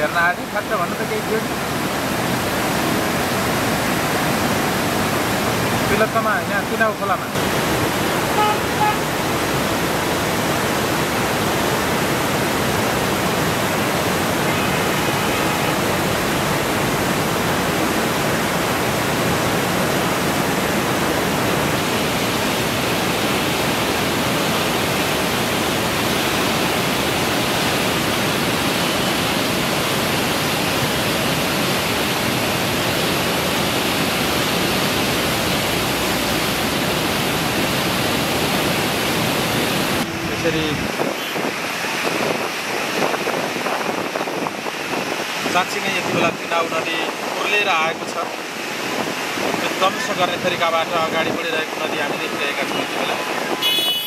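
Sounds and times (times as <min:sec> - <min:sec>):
flooded river rushing: 0:00.0 - 0:54.0.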